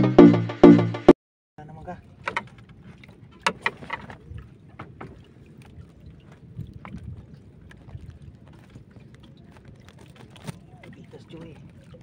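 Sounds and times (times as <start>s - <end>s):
water noise: 1.6s - 12.0s
wind: 1.6s - 12.0s.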